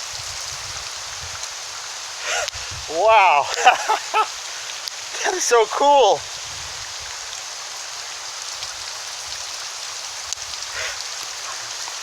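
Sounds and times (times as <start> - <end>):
hail falling with dense hiss: 0.0 - 12.0.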